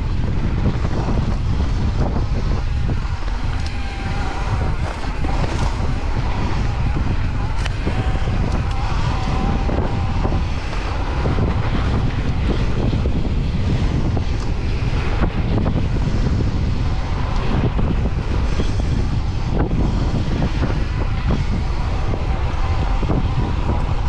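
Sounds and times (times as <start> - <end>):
bike clicks and rattles: 0.0 - 24.0
bike tyres rumbling on dirt: 0.0 - 24.0
wind buffeting microphone: 0.0 - 24.0.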